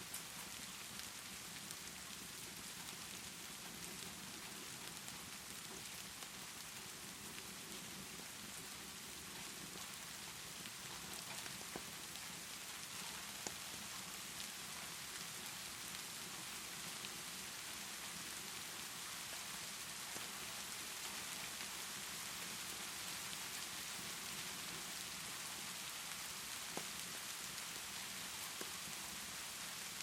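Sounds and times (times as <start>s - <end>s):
steady rainfall: 0.0s - 30.0s.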